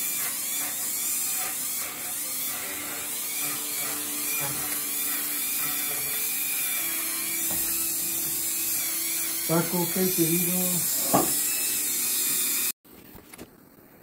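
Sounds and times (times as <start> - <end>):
rotary tool carving wood: 0.0 - 12.8.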